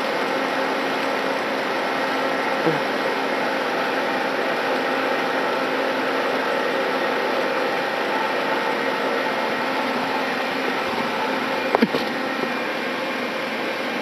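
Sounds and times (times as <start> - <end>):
mortar spraying machine running: 0.0 - 14.0.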